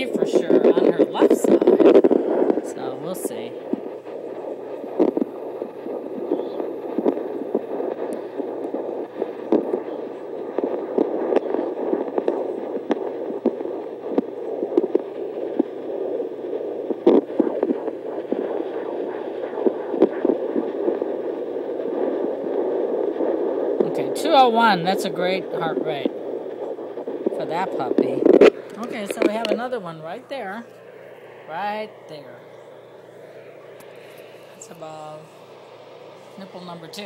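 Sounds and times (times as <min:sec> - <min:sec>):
doppler heartbeat whooshing pulse: 0:00.0 - 0:37.0
steady hiss: 0:00.0 - 0:37.0.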